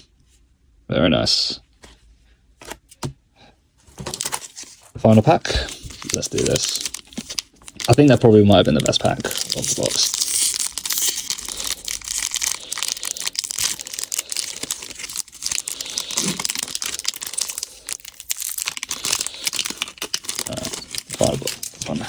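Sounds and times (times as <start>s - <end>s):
wrapper tearing and crinkling: 4.0s - 22.0s.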